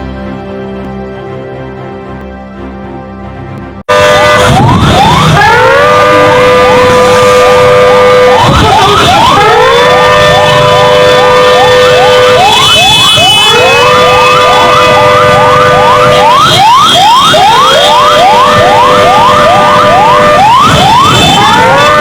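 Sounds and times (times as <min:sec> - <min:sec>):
alarm sirens wailing: 0:03.9 - 0:22.0.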